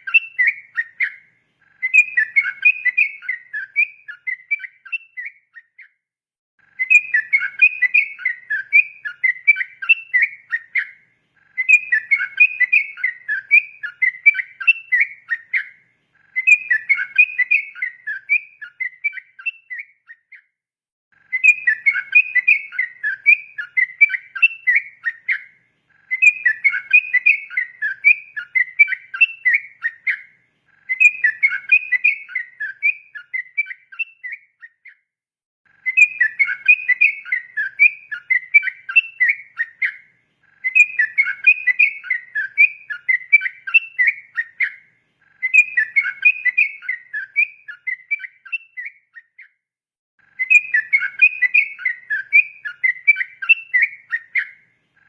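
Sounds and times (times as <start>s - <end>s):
bird singing chattering song: 0.0s - 6.0s, 6.6s - 20.6s, 21.2s - 35.1s, 35.7s - 49.6s, 50.2s - 55.0s.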